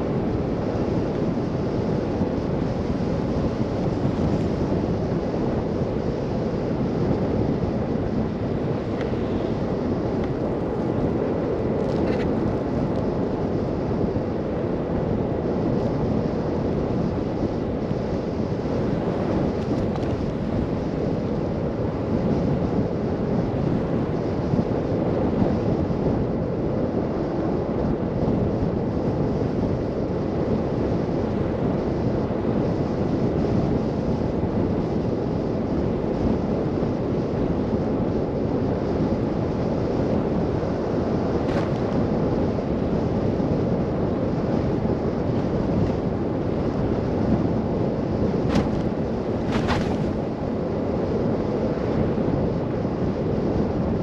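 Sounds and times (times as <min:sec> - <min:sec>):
wind and car driving noise: 0:00.0 - 0:54.0.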